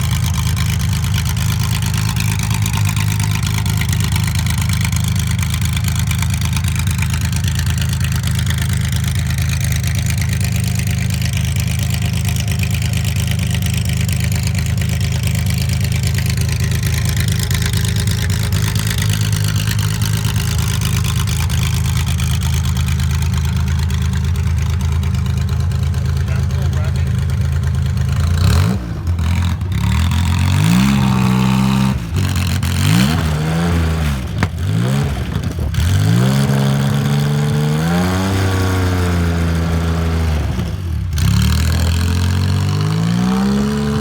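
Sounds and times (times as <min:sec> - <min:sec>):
race car engine idling: 0:00.0 - 0:37.5.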